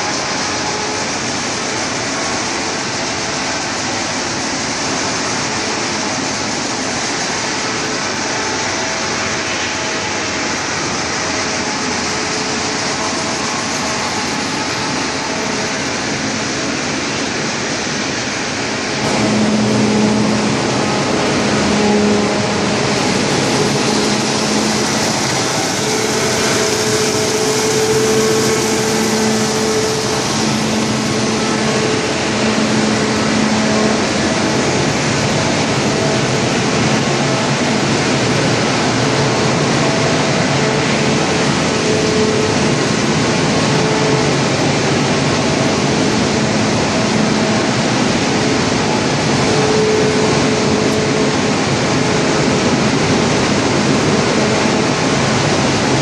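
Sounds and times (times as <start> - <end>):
machinery drone: 0.0 - 56.0
steady hum: 0.0 - 56.0.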